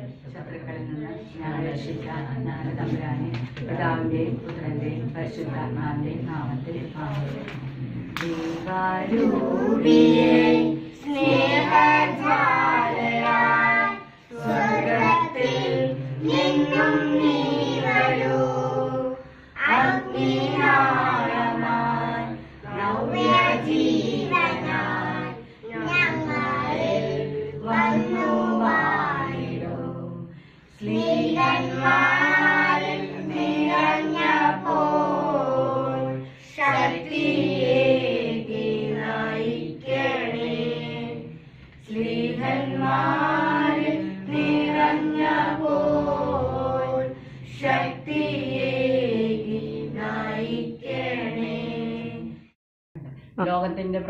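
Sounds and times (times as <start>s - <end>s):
children and women singing a hymn: 0.0s - 7.6s, 8.2s - 52.6s.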